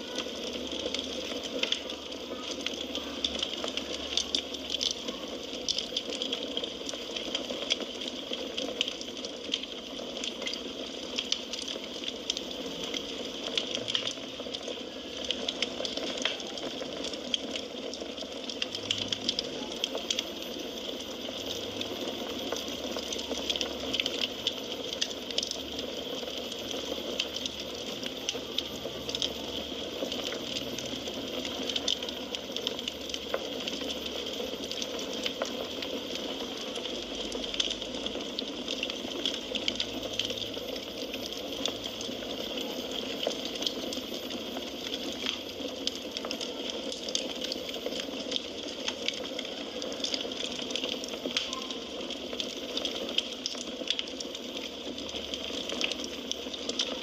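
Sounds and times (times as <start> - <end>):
firewood crackling and hissing: 0.0 - 57.0.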